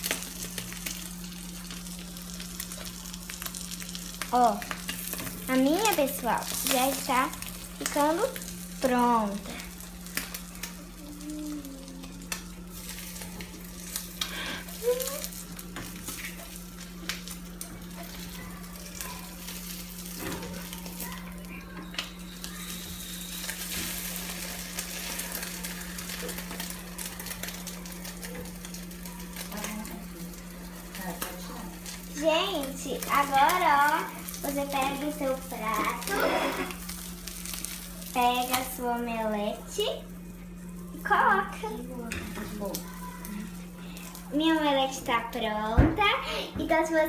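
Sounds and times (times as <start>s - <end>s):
egg frying in oil: 0.0s - 47.0s.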